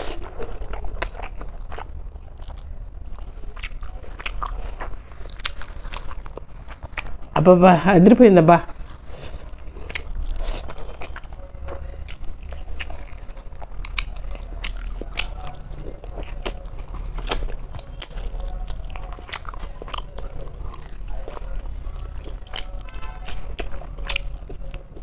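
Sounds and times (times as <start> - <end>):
person chewing food: 0.0 - 7.7, 8.6 - 25.0.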